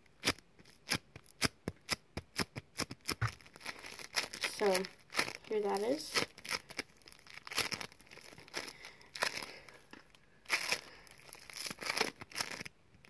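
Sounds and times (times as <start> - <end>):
bead foam crackling and crinkling: 0.0 - 13.0.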